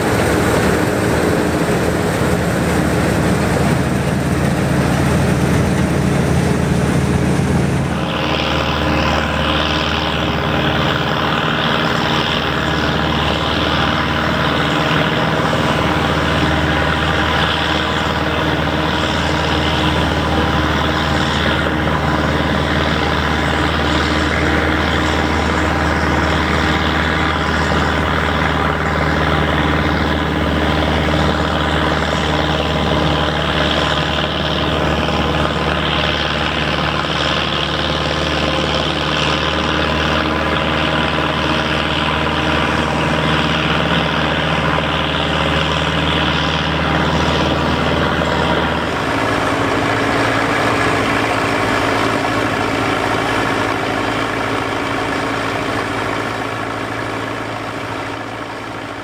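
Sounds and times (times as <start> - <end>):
combine threshing machinery: 0.0 - 59.0
tractor engine running under load: 0.0 - 59.0.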